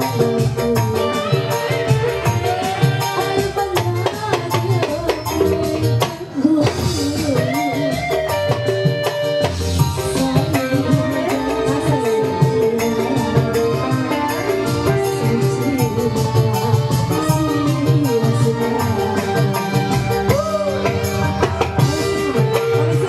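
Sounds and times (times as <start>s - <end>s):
hand drums and guitar: 0.0s - 23.0s
woman singing: 0.0s - 23.0s.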